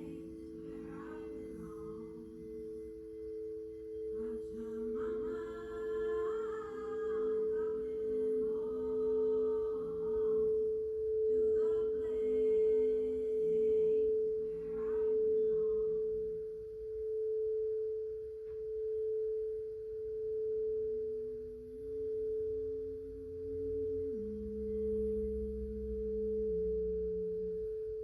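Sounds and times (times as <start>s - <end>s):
low held notes: 0.0s - 16.7s, 21.2s - 28.0s
singing bowl tone: 0.0s - 28.0s.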